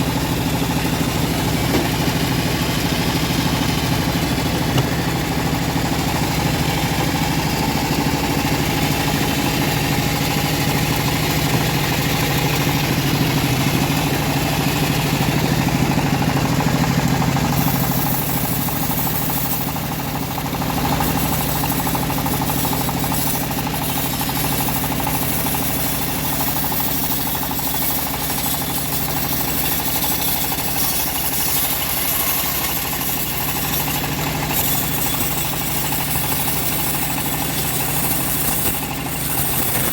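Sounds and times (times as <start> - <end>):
engine hum: 0.0 - 39.9
high hiss of bandsaw mill: 0.0 - 39.9.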